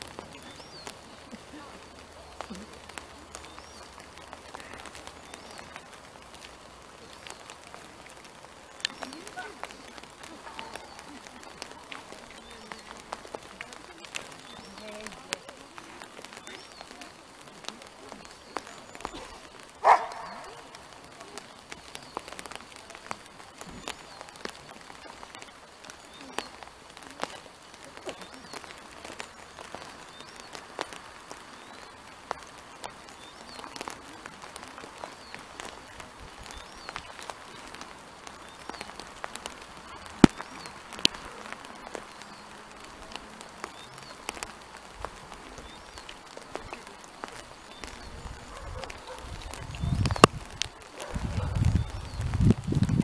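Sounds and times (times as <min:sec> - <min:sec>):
faint clicks and ticks: 0:00.0 - 0:53.0.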